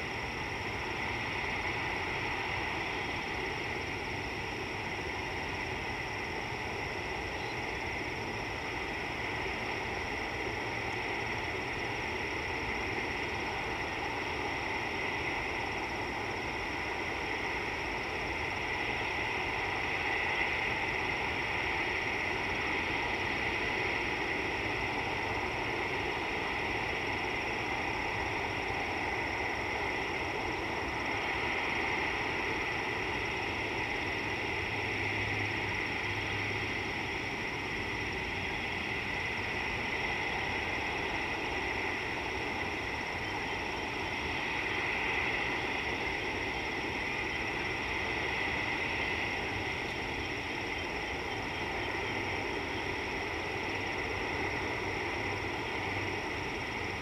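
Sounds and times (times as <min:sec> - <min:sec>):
outdoor ambient hiss: 0:00.0 - 0:57.0.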